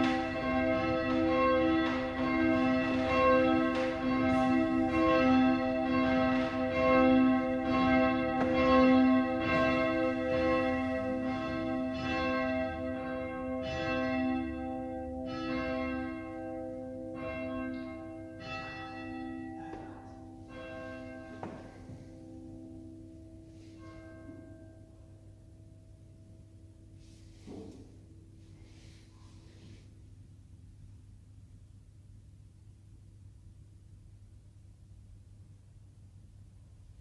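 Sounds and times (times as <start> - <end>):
church bell ringing: 0.0 - 29.7.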